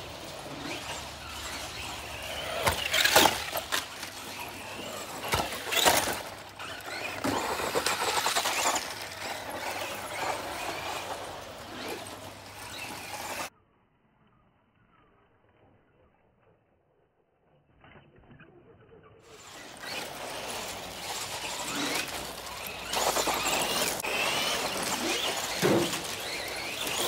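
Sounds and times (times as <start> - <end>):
rc cars on dirt track: 0.0 - 27.0.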